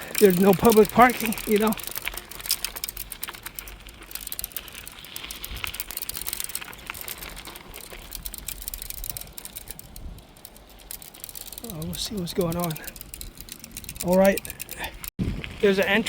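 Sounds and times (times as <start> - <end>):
bicycle freewheel clicking: 0.0 - 15.1.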